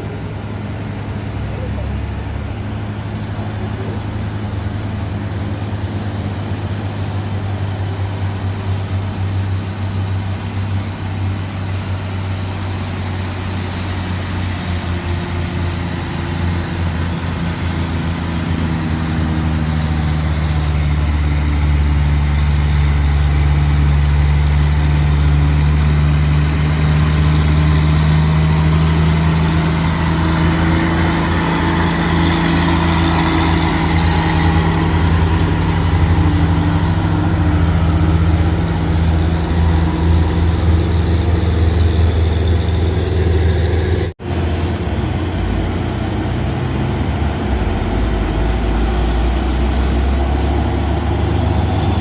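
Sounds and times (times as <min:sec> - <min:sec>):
truck engine running: 0:00.0 - 0:52.0.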